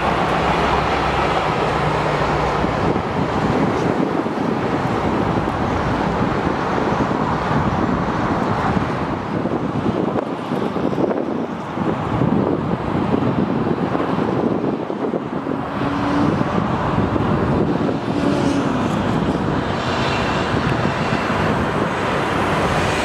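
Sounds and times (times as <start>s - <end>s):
diesel locomotive engine drone: 0.0s - 23.0s
rail noise: 0.0s - 23.0s
road traffic: 0.0s - 23.0s
wind on the microphone: 0.0s - 23.0s.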